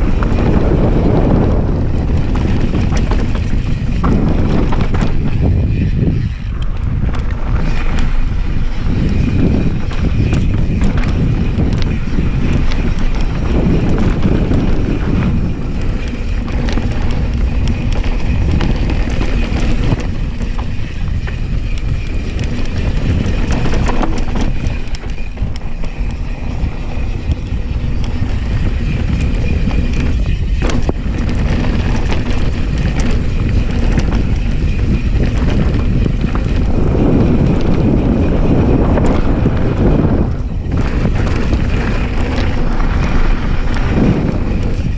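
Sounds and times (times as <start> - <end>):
bike rattling: 0.0 - 44.9
bike tyres rumbling over gravel: 0.0 - 44.9
wind buffeting microphone: 0.0 - 44.9.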